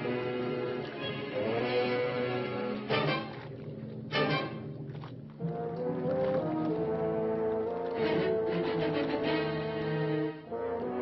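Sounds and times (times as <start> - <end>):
orchestral music sustained notes: 0.0 - 11.0.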